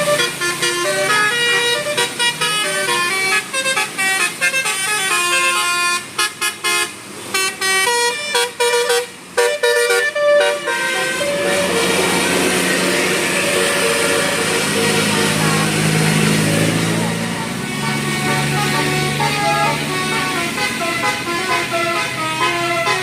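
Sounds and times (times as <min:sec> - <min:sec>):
musical bus horn tune: 0:00.0 - 0:23.0.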